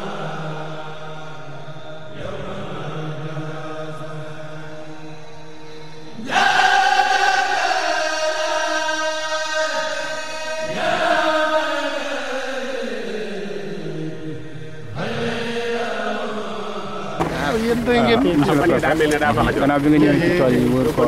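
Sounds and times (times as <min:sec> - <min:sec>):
voices chanting held notes: 0:00.0 - 0:21.0.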